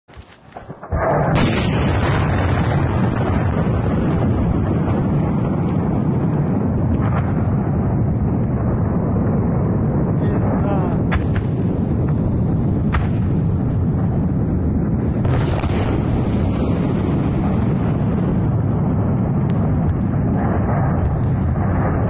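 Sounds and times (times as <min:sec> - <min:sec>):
explosion blast: 0:00.5 - 0:22.0.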